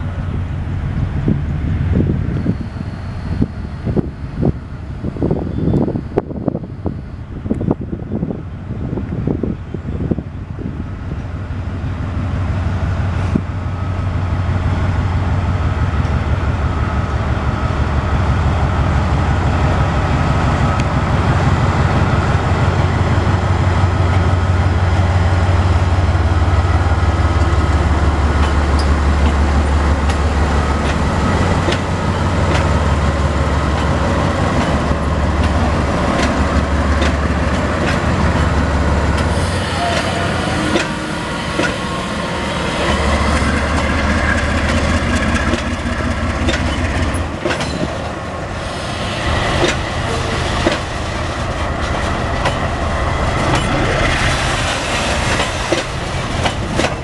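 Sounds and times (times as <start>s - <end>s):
locomotive diesel engines droning: 0.0s - 57.0s.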